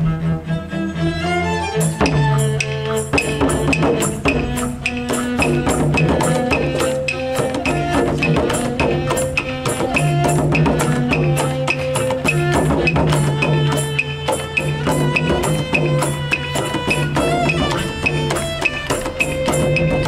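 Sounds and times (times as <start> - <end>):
bowed strings holding notes: 0.0 - 20.0
frame drum and tambourine rhythm: 1.6 - 20.0.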